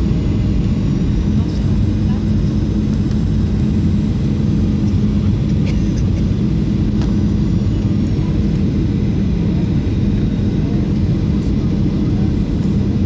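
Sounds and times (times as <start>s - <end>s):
airplane cabin engine drone: 0.0s - 13.0s.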